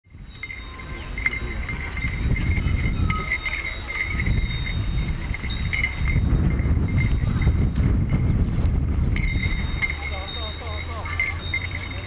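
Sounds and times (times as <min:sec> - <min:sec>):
harness bells jingling: 0:00.0 - 0:12.0.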